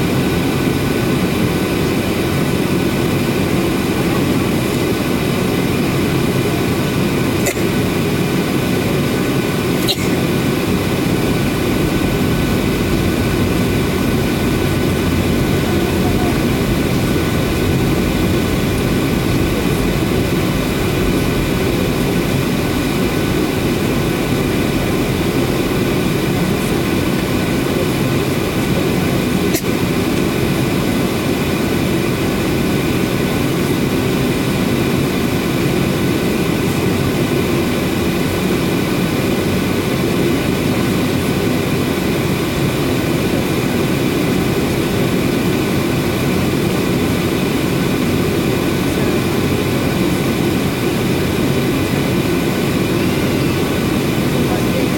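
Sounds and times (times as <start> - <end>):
airflow: 0.0 - 54.9
faint steady whine: 0.0 - 54.9
jet engine rumble: 0.0 - 54.9.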